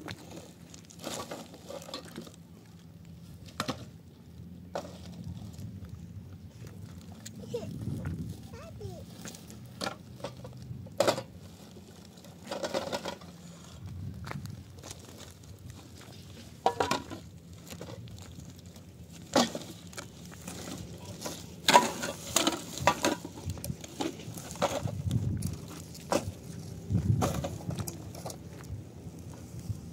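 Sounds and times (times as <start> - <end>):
footsteps on stony ground: 4.9 - 12.6, 13.2 - 29.9.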